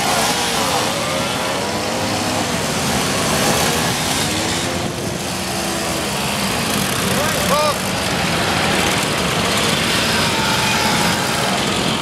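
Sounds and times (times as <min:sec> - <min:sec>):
mopeds riding past: 0:00.0 - 0:12.0.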